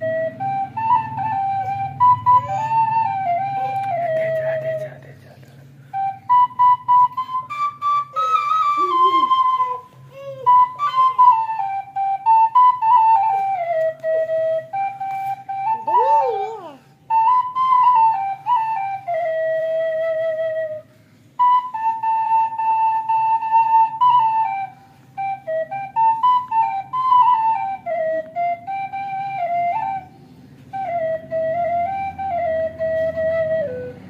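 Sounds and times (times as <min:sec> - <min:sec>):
wooden flute melody: 0:00.0 - 0:05.1, 0:05.8 - 0:34.0.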